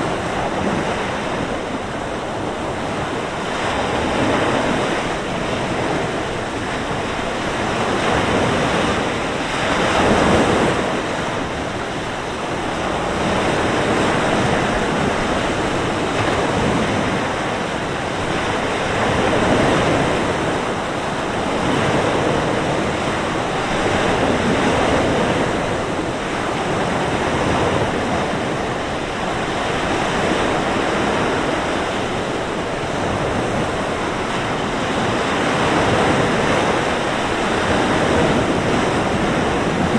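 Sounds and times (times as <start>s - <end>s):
waves breaking on beach: 0.0s - 39.9s
wind blowing: 0.0s - 39.9s.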